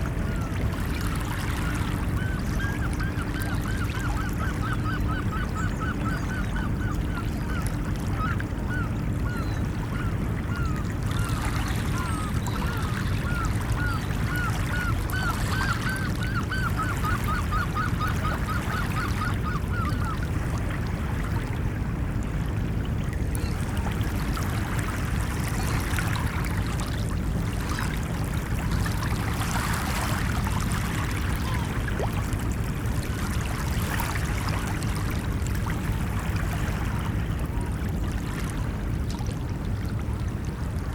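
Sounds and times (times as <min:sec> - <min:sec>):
ocean waves washing on a beach: 0:00.0 - 0:40.9.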